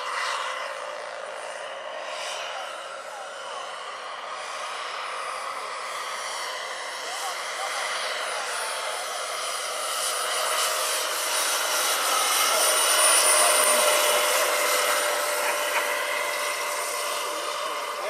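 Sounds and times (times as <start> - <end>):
helicopter rotor noise: 0.0 - 18.0
model helicopter turbine whine: 0.0 - 18.0.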